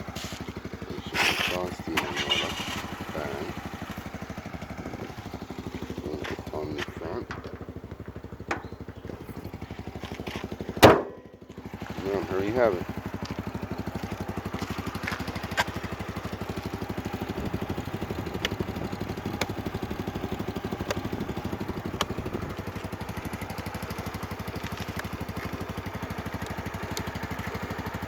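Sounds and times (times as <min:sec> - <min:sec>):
scooter engine idling: 0:00.0 - 0:28.0.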